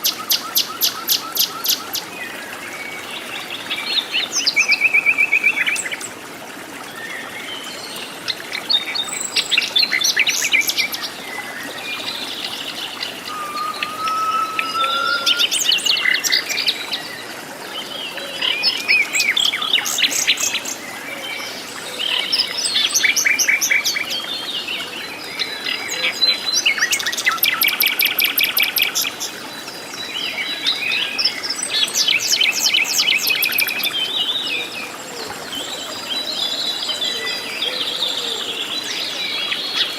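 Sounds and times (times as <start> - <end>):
birds calling and singing: 6.8 - 39.9.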